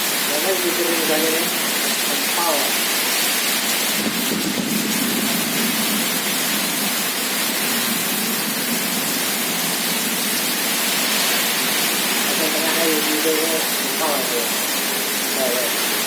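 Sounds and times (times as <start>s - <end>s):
heavy rain in windstorm: 0.0s - 16.0s.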